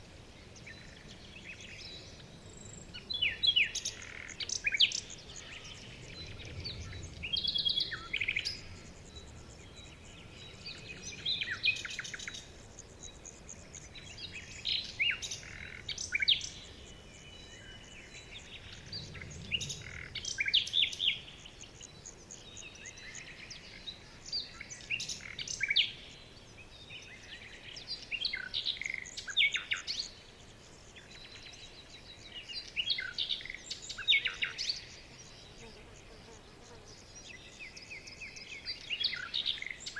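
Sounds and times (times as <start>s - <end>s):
faint background hiss: 0.0s - 39.9s
songbirds singing: 0.0s - 39.9s.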